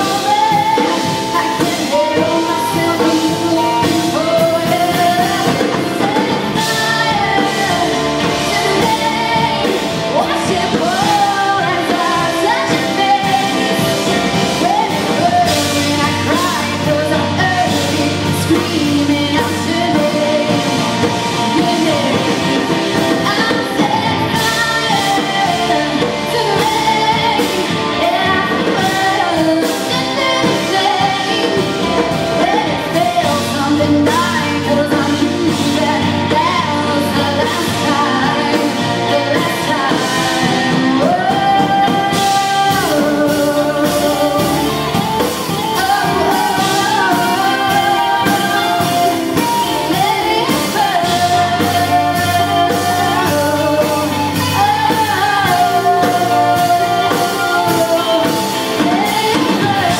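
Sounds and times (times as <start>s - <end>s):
drums: 0.0s - 59.9s
guitar: 0.0s - 59.9s
person singing pop-rock song: 0.0s - 59.9s.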